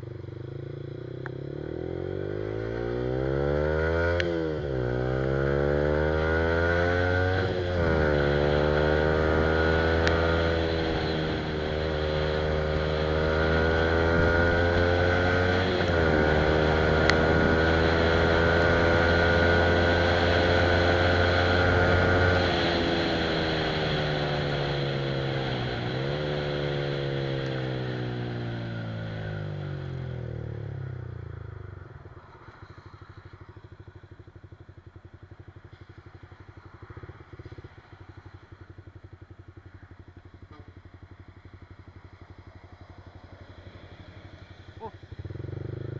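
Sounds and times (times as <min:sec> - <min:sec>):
motorcycle engine revving through gears: 0:00.0 - 0:45.9.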